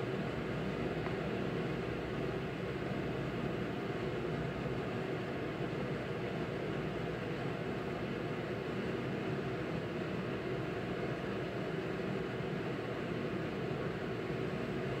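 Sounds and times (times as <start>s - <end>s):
small machine whirring hum: 0.0s - 15.0s.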